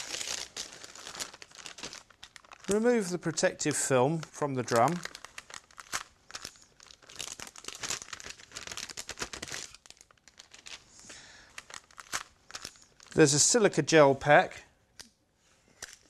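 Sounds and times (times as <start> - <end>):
protective film peeling and crinkling: 0.0 - 13.3.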